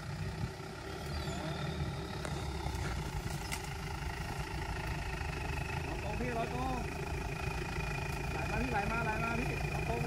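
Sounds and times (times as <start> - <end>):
truck engine rumbling at low revs: 0.0 - 10.0.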